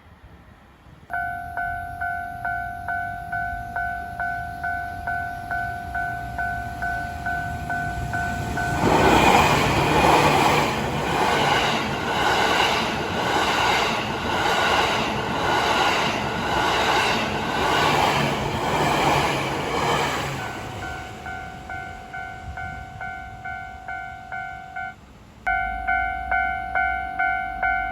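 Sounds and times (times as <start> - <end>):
train passing at speed: 0.0 - 27.9.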